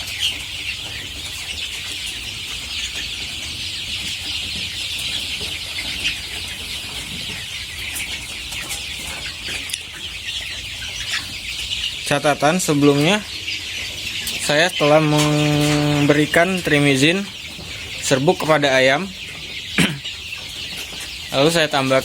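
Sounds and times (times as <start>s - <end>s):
chickens peeping and clucking: 0.0s - 22.0s.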